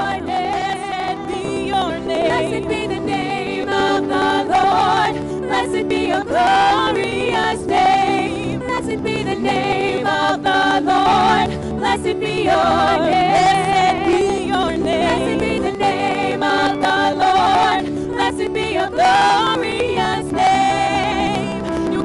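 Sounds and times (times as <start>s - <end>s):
women singing in harmony: 0.0s - 22.0s.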